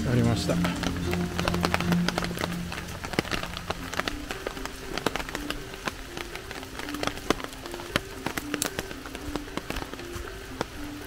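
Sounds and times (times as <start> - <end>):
rain falling: 0.0 - 11.0
raindrop ticks: 0.0 - 11.0
soft background music: 0.0 - 11.0.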